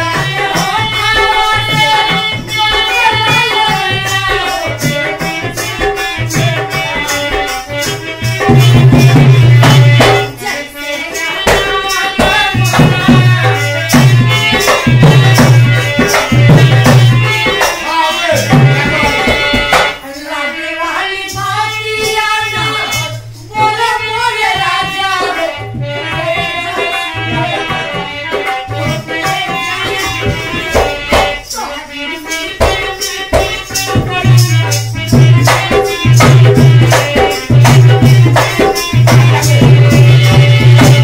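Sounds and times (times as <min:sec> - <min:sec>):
tabla drumming: 0:00.0 - 0:20.2, 0:21.0 - 0:41.0
person singing: 0:00.0 - 0:41.0.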